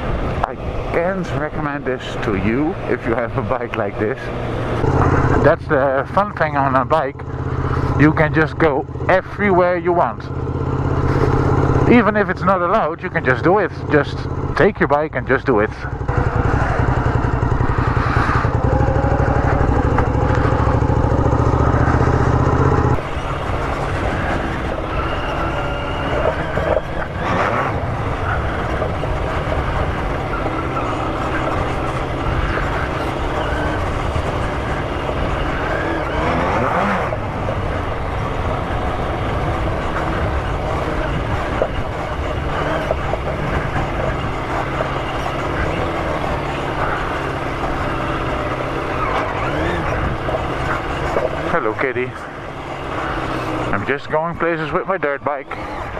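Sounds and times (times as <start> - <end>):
motorcycle engine running: 0.0 - 55.9
road noise: 0.0 - 55.9.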